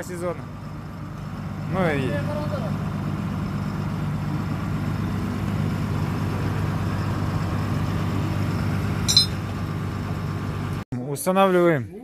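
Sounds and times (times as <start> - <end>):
diesel engine idling: 0.0 - 10.8.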